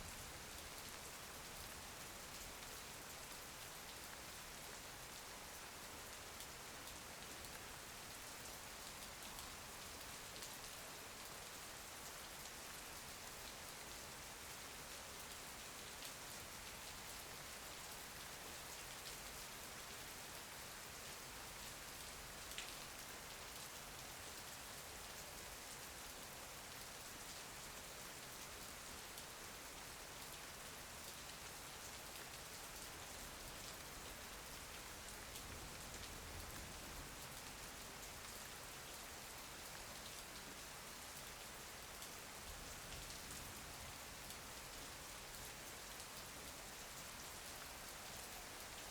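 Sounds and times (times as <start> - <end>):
rain patter: 0.0 - 48.9.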